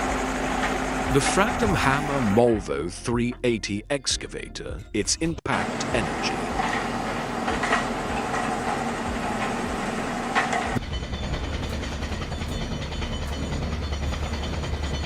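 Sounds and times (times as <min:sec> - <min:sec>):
excavator diesel engine running: 0:00.0 - 0:03.7, 0:05.3 - 0:15.0.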